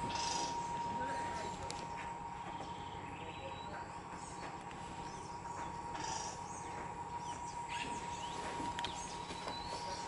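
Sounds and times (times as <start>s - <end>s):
birds chirping and calling: 0.0s - 10.0s
steady high-pitched hum: 0.0s - 10.0s.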